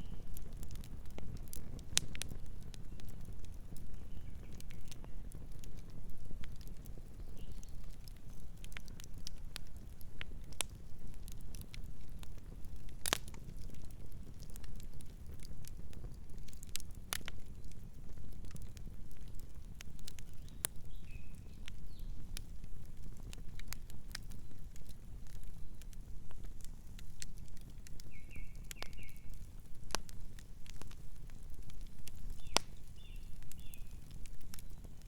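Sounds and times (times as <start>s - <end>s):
low rumble of flames: 0.0s - 35.0s
wood crackling and popping: 0.0s - 35.0s.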